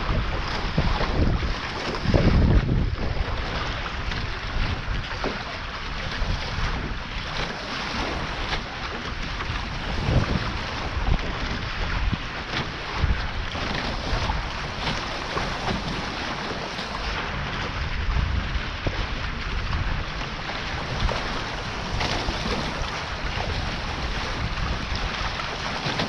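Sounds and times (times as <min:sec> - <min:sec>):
water rushing past hulls: 0:00.0 - 0:26.0
wind rumble on microphone: 0:00.0 - 0:26.0.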